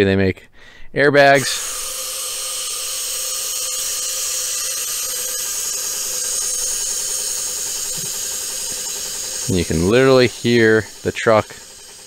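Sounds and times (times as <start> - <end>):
air suspension venting hiss: 1.3 - 12.0
high whine: 1.3 - 12.0.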